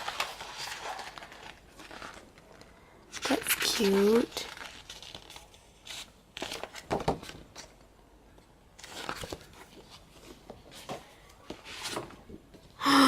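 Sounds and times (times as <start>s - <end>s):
paper and plastic rustling: 0.0s - 7.8s, 8.8s - 12.5s.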